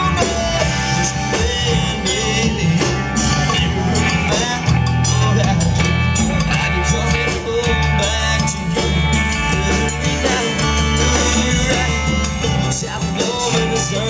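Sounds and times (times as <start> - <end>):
live country-rock band: 0.0 - 14.0.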